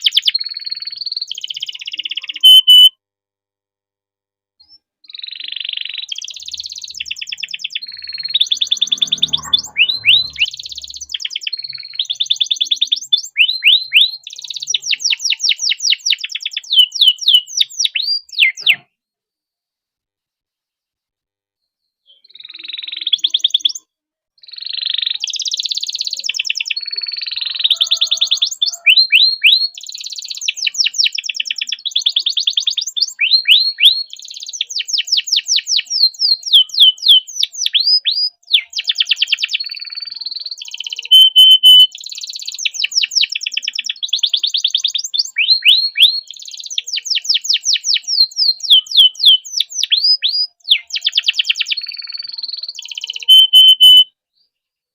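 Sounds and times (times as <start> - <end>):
canary singing trills: 0.0 - 2.9, 4.6 - 18.9, 22.1 - 54.1.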